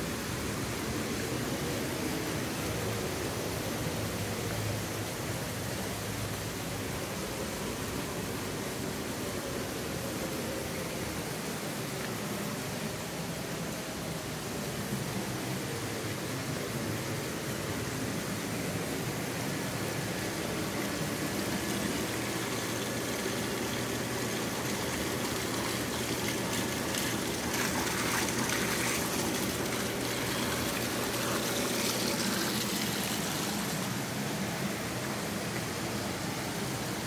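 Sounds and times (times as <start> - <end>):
flowing water rushing: 0.0 - 37.0.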